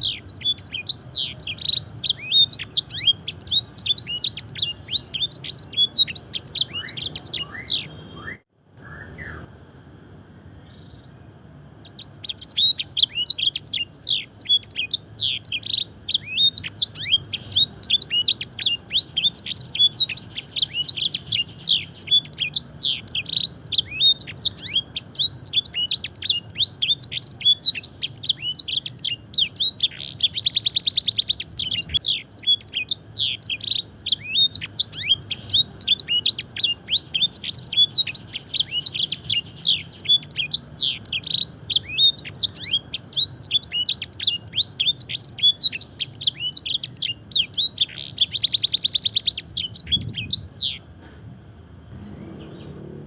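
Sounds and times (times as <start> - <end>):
canary singing: 0.0 - 9.6, 10.4 - 50.9, 51.9 - 53.0.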